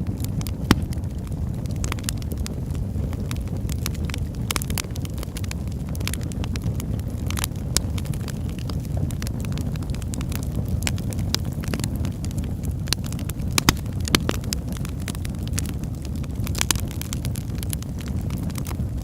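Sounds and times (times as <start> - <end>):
wood fire crackling: 0.1 - 19.0.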